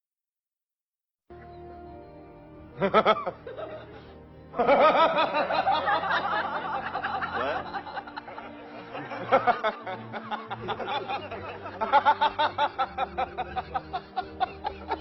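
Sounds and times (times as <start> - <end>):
music: 1.3 - 15.0
wobbling laugh-like sounds: 2.8 - 15.0.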